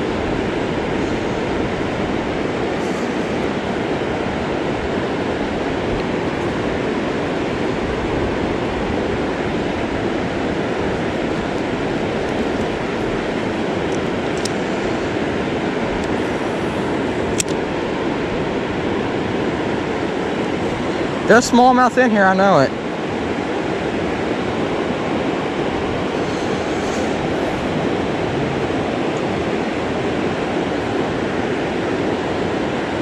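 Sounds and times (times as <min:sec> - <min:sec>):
river water rushing over riffle: 0:00.0 - 0:33.0.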